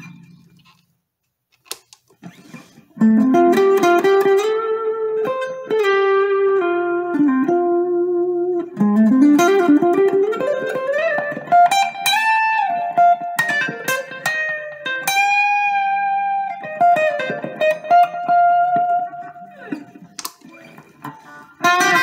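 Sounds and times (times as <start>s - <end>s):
electric guitar lead notes: 3.0s - 22.0s.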